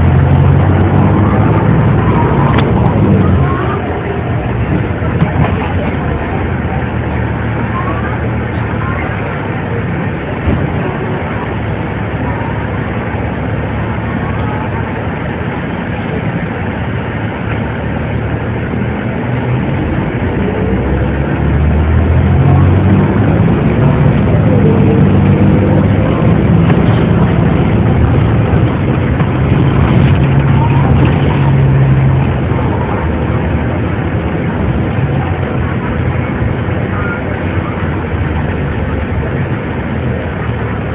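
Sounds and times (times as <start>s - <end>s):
bus engine droning: 0.0s - 40.9s.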